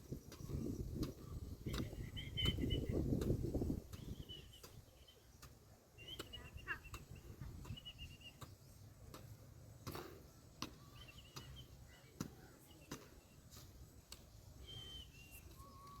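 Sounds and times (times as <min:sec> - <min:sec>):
faint bird chirping: 0:00.0 - 0:09.5, 0:10.2 - 0:16.0.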